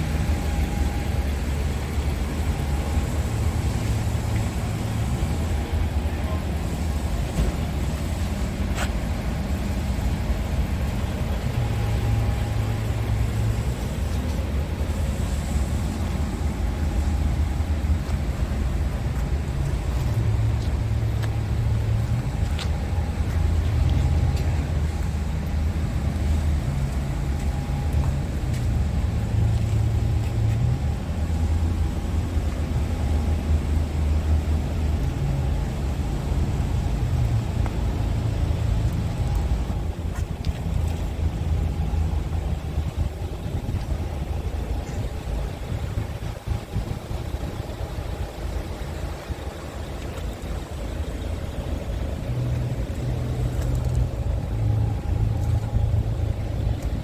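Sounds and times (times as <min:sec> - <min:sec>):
truck diesel engine rumble: 0:00.0 - 0:57.0.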